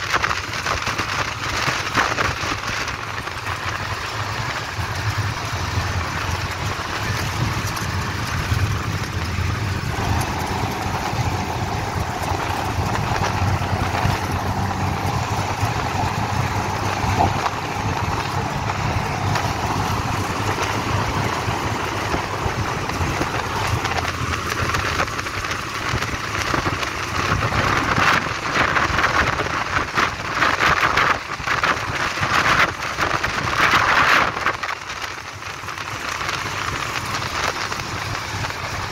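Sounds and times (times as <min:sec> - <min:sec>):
rushing wind: 0:00.0 - 0:38.9
vehicle engine hum and road noise: 0:00.0 - 0:38.9.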